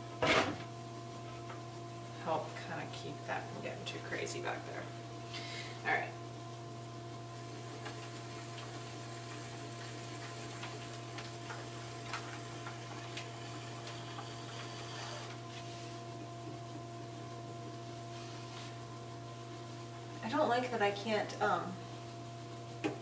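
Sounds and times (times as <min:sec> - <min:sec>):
potter's wheel humming: 0:00.0 - 0:23.0.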